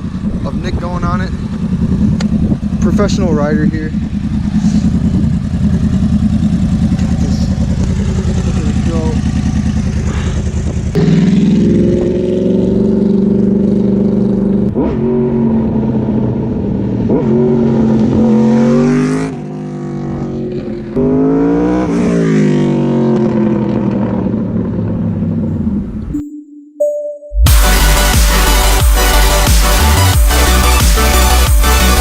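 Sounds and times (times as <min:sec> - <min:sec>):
motorcycle engine revving: 0:00.0 - 0:26.1.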